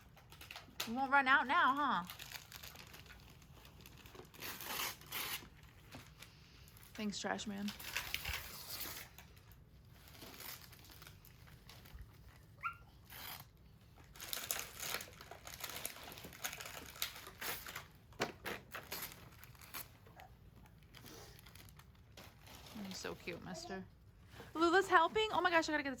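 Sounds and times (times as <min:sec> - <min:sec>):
wrapping paper crumpling and tearing: 0:00.0 - 0:23.7.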